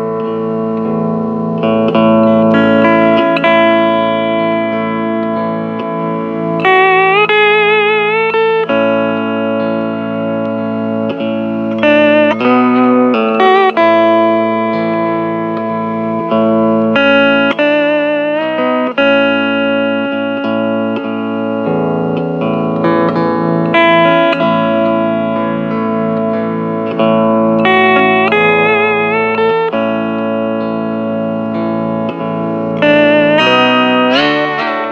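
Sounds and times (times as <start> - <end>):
steel guitar slow melody: 0.0 - 34.9.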